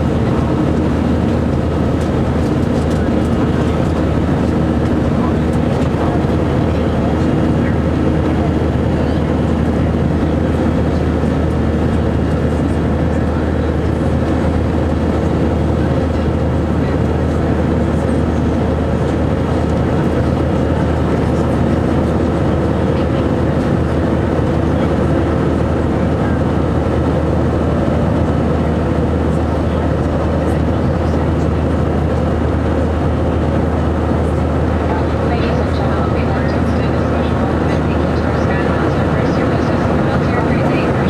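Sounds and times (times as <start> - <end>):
aircraft cabin engine drone: 0.0 - 41.0.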